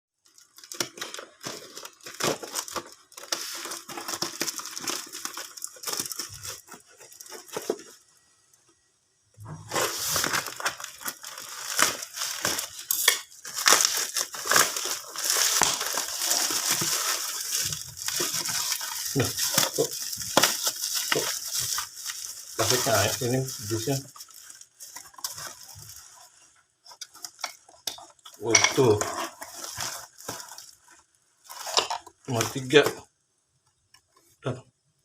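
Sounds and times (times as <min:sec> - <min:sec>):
cardboard and wrapping crinkling: 0:00.2 - 0:08.5, 0:09.4 - 0:33.0.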